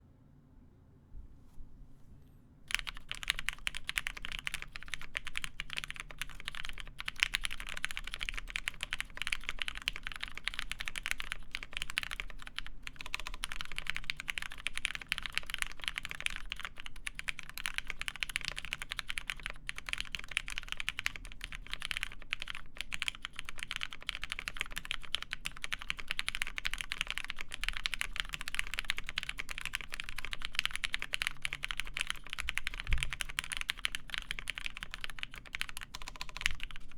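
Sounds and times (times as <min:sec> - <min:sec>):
mechanical keyboard typing: 0:02.7 - 0:36.9.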